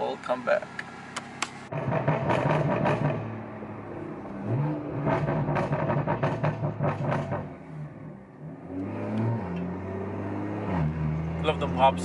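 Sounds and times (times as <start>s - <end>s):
car engine accelerating: 0.6s - 12.0s.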